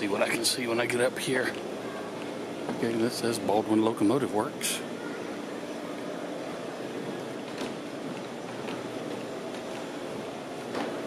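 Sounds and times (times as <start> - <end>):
faint steady hum: 0.0 - 11.0
hollow room noise: 0.0 - 11.0.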